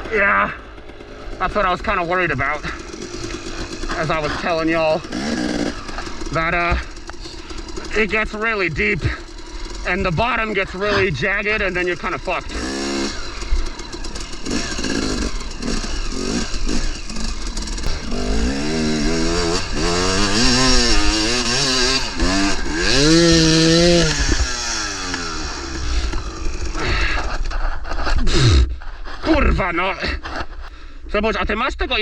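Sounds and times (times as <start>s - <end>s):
dirt bike engine revving: 0.0s - 30.6s.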